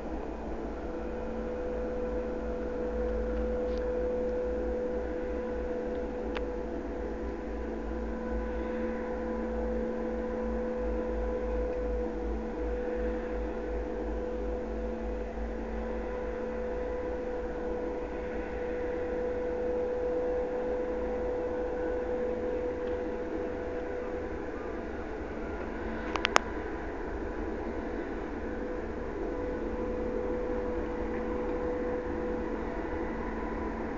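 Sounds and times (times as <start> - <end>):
ferry engines droning: 0.0 - 33.9.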